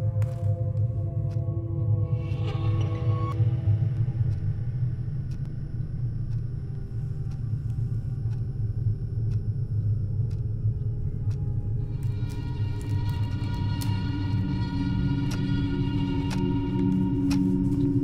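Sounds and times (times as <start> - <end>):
low rumbling drone: 0.0 - 18.0.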